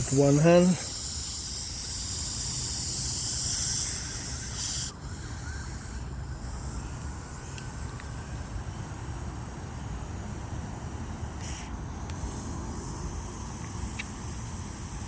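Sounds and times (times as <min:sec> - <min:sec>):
air hissing from tire puncture: 0:00.0 - 0:15.0.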